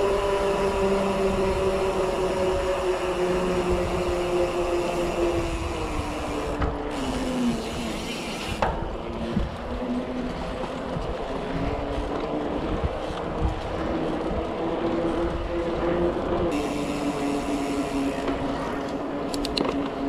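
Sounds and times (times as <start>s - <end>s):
bike wheels humming: 0.0s - 20.0s
wind and road noise: 0.0s - 20.0s.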